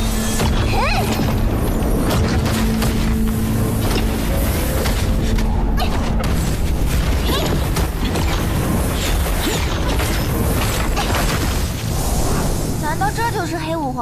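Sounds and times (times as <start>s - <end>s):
booms and sharp impacts: 0.0s - 13.2s
film score music: 0.0s - 14.0s.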